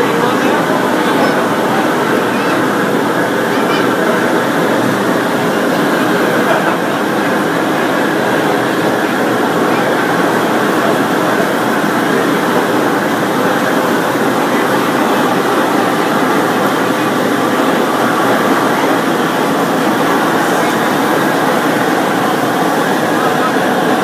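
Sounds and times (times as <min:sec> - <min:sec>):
hubbub of people talking: 0:00.0 - 0:24.0.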